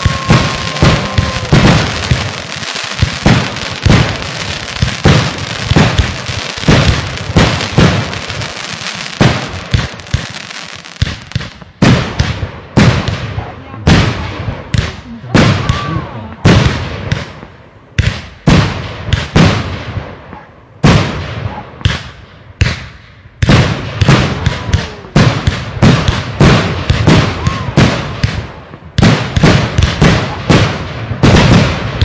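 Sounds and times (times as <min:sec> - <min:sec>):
fireworks launching and bursting: 0:00.0 - 0:32.0.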